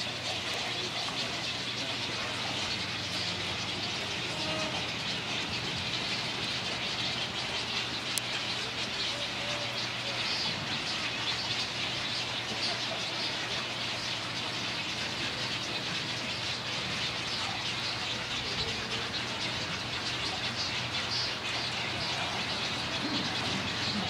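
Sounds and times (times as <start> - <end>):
colony of birds chirping and squawking: 0.0 - 24.0.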